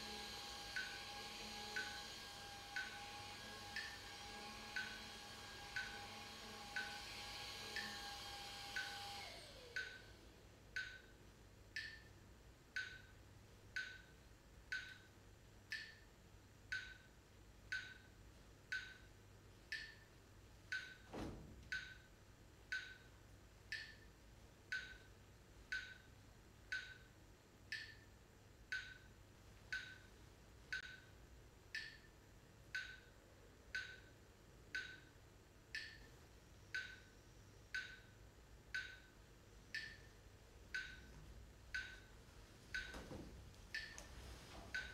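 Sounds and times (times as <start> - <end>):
clock-like ticking: 0.0 - 44.9.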